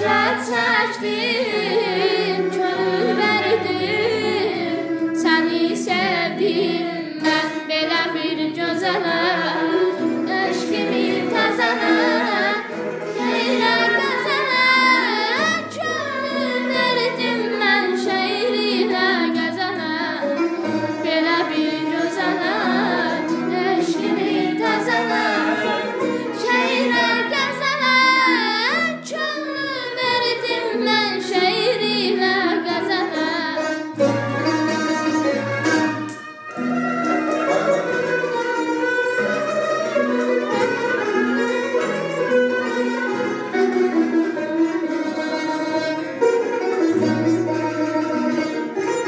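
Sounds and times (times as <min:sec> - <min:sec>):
ornamented melody with trills: 0:00.0 - 0:49.0.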